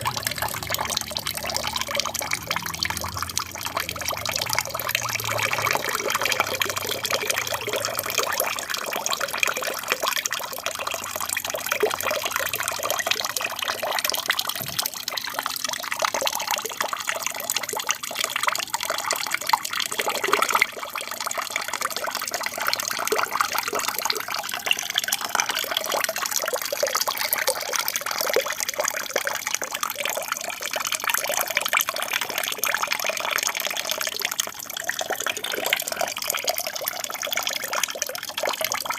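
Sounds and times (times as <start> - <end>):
water splashing into tank: 0.0 - 38.9.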